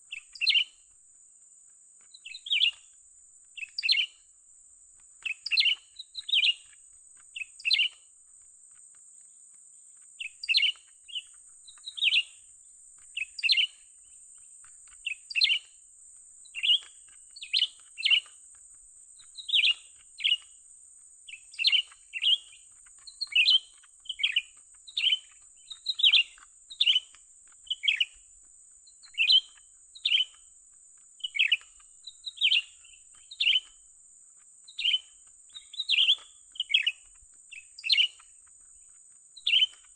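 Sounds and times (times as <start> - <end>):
bird chirping: 0.0 - 1.0, 2.0 - 39.9
steady high-pitched hiss: 0.0 - 39.9.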